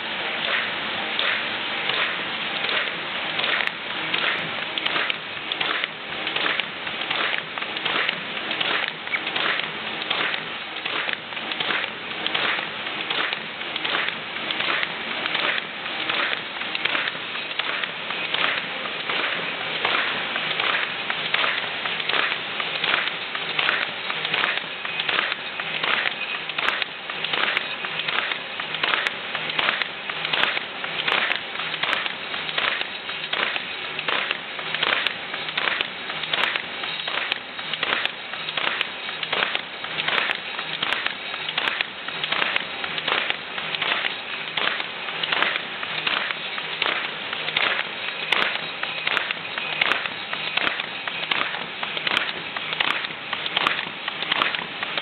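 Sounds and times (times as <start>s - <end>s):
paper folding machine clattering: 0.0s - 55.0s.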